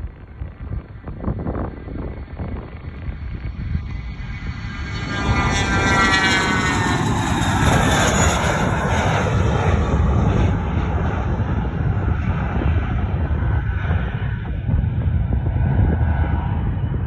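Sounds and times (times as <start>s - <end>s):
jet engines roaring with whine: 0.0s - 17.0s.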